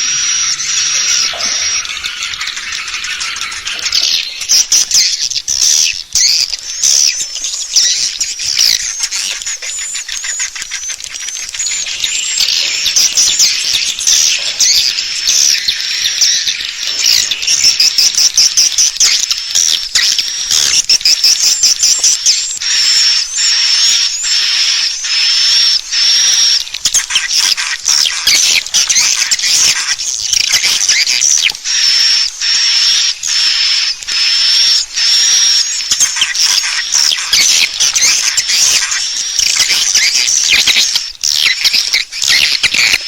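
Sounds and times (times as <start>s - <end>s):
swiftlets twittering: 0.0s - 43.0s.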